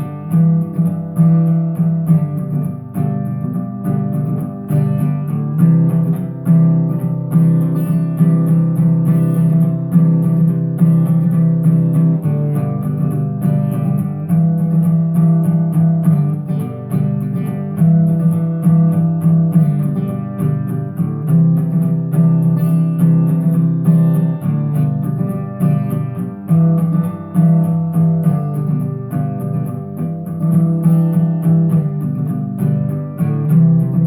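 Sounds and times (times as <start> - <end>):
plucked acoustic guitar: 0.0 - 34.0.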